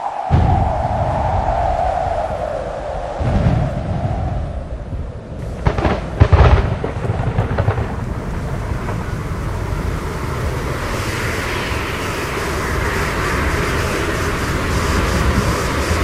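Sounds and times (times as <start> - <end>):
rain: 0.0 - 16.0
wind: 0.0 - 16.0
thunderclap: 0.2 - 16.0.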